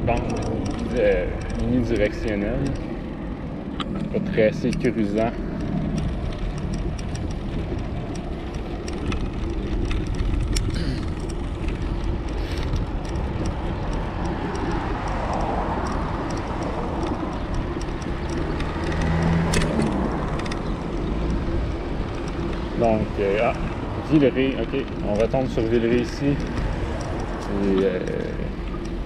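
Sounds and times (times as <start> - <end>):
bicycle tyre road noise: 0.0 - 29.0
car traffic passing: 0.0 - 29.0
light clicks and rattles: 0.0 - 29.0
wind on microphone: 0.0 - 29.0.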